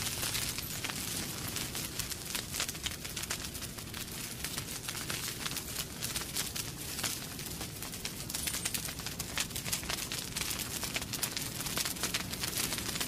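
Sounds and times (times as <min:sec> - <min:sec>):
kebabs sizzling on charcoal grill: 0:00.0 - 0:13.0.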